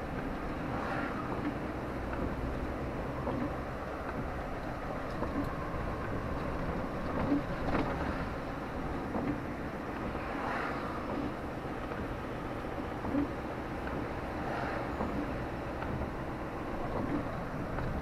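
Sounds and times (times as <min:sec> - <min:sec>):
moving vehicle running noise: 0:00.0 - 0:18.0.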